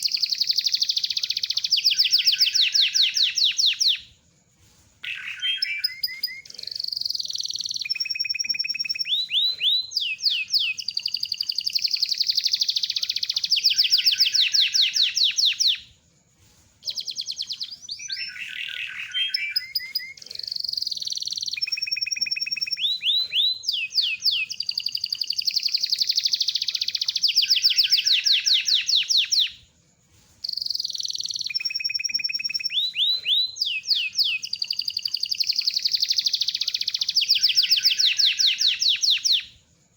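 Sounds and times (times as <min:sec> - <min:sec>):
canary singing trills: 0:00.0 - 0:04.1, 0:05.0 - 0:16.0, 0:16.8 - 0:29.7, 0:30.4 - 0:39.6.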